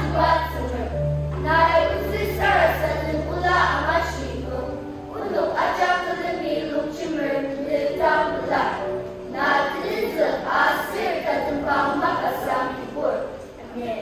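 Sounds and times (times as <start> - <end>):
children's choir singing: 0.0 - 13.8.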